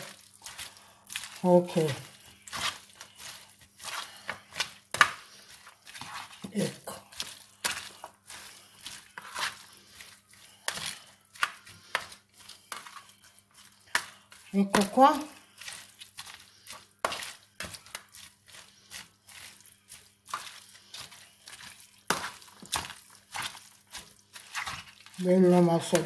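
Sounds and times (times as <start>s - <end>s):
hands squeezing shredded cabbage: 0.0s - 26.0s.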